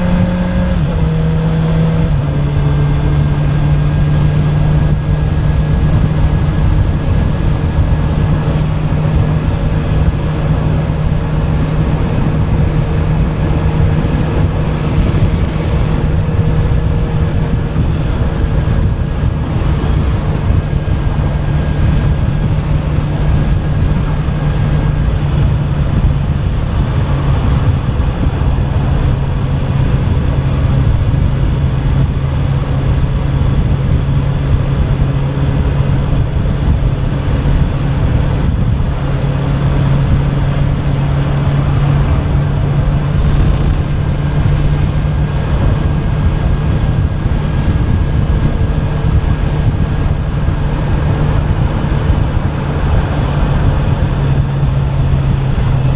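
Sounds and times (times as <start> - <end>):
motorcycle engine cruising: 0.0 - 55.9
wind rushing over microphone: 0.0 - 55.9.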